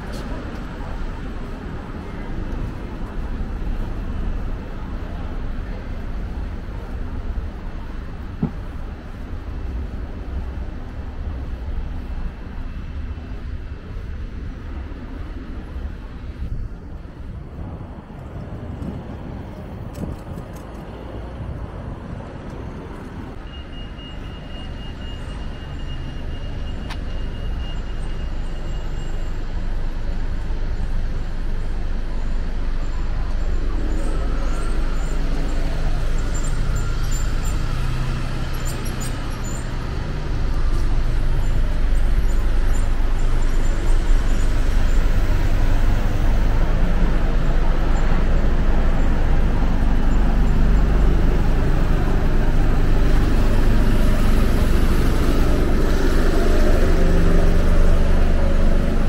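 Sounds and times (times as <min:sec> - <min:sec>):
city traffic road noise: 0:00.0 - 0:59.0
heavy low engine rumble: 0:00.0 - 0:59.0.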